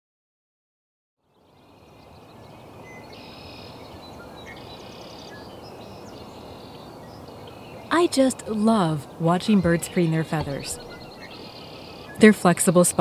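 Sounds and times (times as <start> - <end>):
small birds chirping: 1.3 - 13.0.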